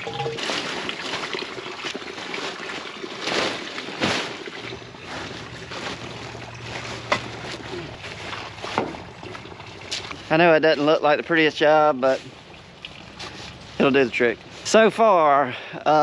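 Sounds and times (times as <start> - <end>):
water trickling from drain hole: 0.0 - 13.8
water swishes: 0.0 - 14.8.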